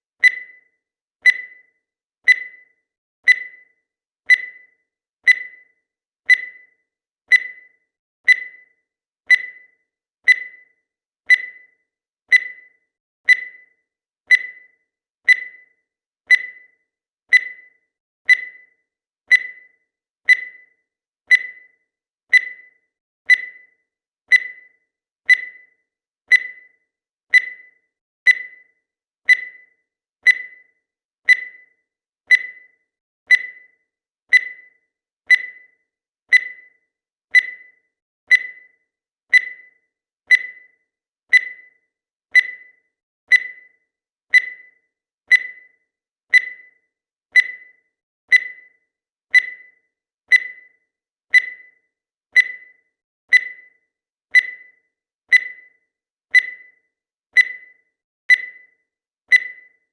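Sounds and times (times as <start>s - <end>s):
timer short beeps: 0.2s - 59.9s.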